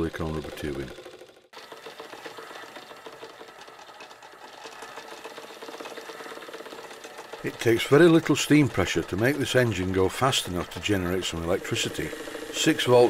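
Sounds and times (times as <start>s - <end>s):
generator hum: 0.0s - 13.0s
steam engine clattering: 0.0s - 13.0s.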